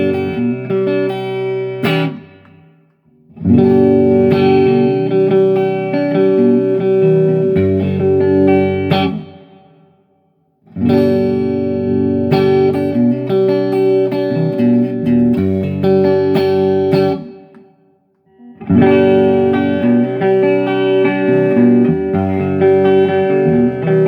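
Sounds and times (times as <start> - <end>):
electric guitar chords and notes: 0.0 - 24.0.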